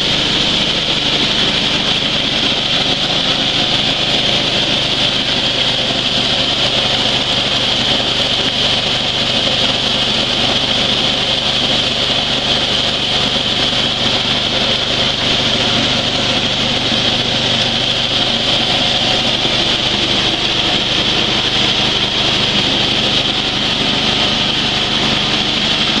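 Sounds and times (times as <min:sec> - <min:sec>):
coffee huller running: 0:00.0 - 0:26.0
small engine running: 0:00.0 - 0:26.0.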